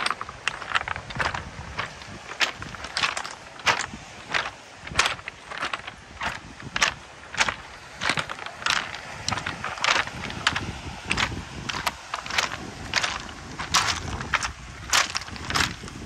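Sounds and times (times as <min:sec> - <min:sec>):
footsteps crunching on pebbles: 0:00.0 - 0:16.0.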